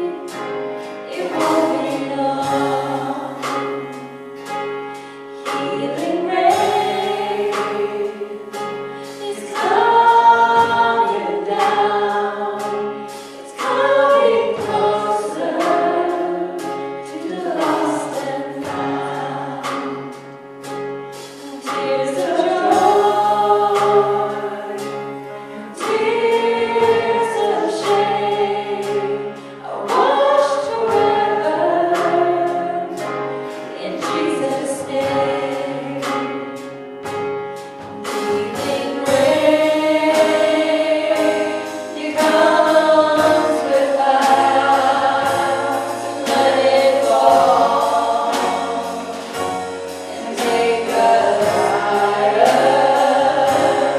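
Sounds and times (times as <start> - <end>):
group singing worship song: 0.0 - 53.9.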